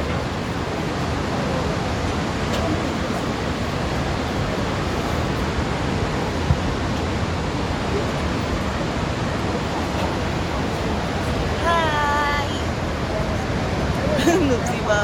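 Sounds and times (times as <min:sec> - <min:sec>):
fast river water rushing: 0:00.0 - 0:15.0.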